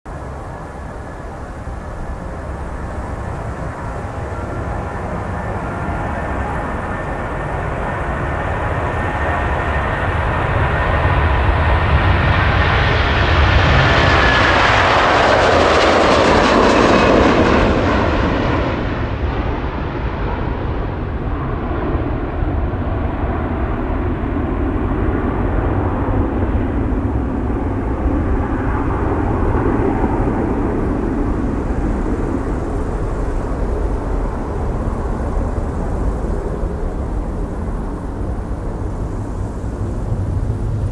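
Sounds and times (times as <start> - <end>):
jet engines at takeoff thrust: 0.1 - 40.9.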